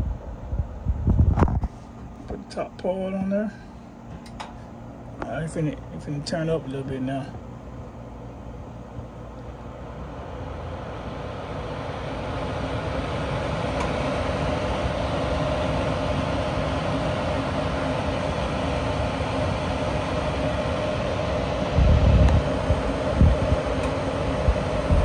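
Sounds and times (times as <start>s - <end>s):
furnace blower humming: 0.0s - 25.0s.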